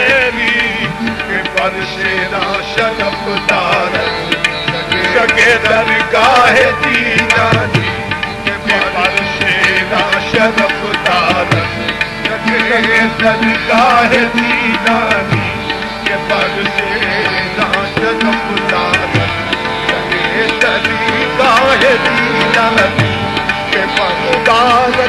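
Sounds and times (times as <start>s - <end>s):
tabla drumming: 0.0s - 25.0s.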